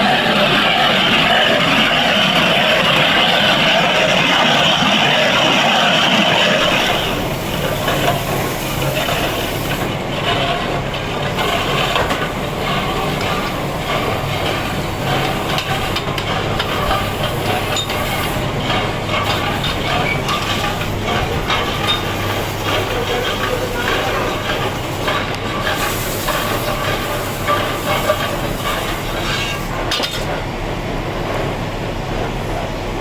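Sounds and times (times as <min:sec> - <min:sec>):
stone working machine: 0:00.0 - 0:32.9.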